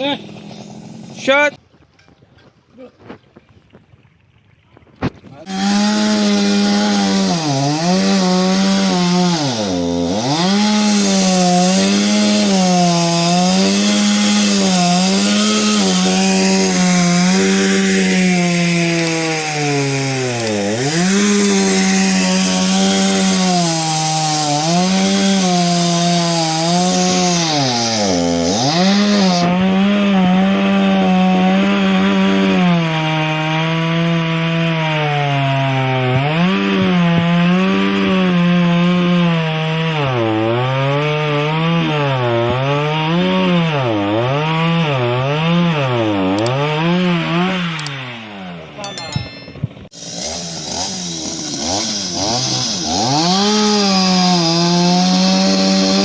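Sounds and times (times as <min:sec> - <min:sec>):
chainsaw cutting wood: 0:00.0 - 0:01.5, 0:05.4 - 0:56.0.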